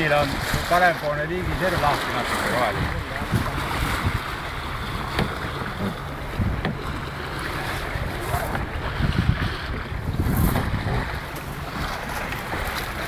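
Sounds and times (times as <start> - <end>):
water rushing along a hull: 0.0 - 13.0
wind buffeting the microphone: 0.0 - 13.0.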